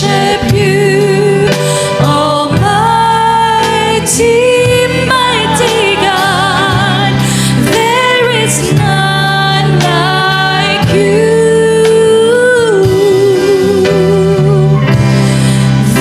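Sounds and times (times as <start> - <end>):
band accompaniment with bass: 0.0 - 16.0.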